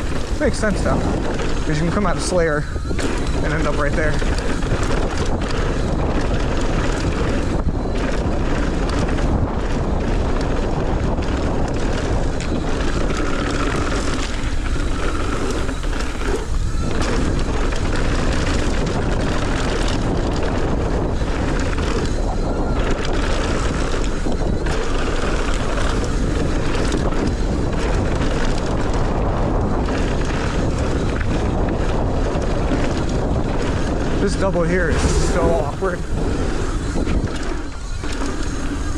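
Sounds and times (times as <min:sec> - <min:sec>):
bike knocking and rattling: 0:00.0 - 0:38.9
bike tyres humming: 0:00.0 - 0:38.9
wind buffeting microphone: 0:00.0 - 0:38.9.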